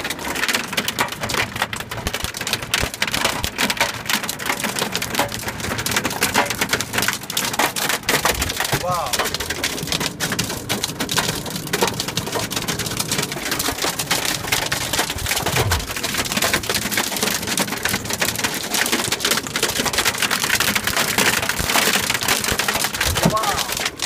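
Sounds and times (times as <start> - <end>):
hail pelting car roof: 0.0 - 24.0.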